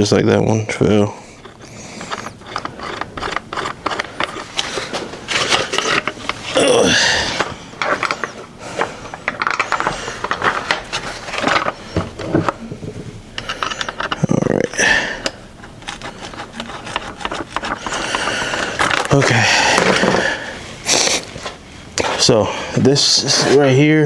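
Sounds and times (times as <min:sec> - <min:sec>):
metal parts clicking and scraping: 0:00.8 - 0:20.3.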